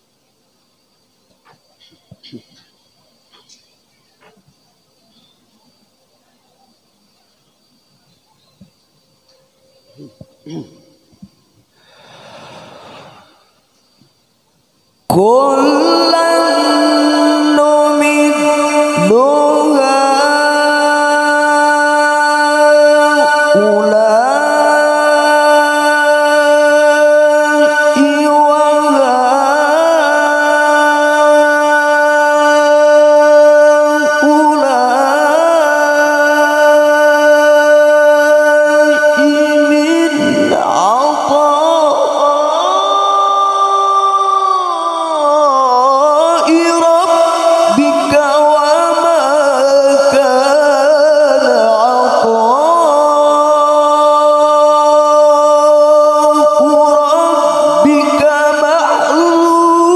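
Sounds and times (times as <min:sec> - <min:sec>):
man's amplified melodic recitation: 0:01.4 - 0:04.4, 0:09.3 - 0:11.1, 0:15.0 - 0:59.9.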